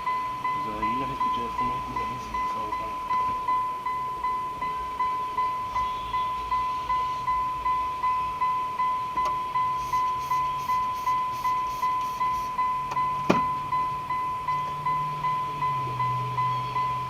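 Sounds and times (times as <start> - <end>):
car warning chime dinging: 0.0 - 17.0.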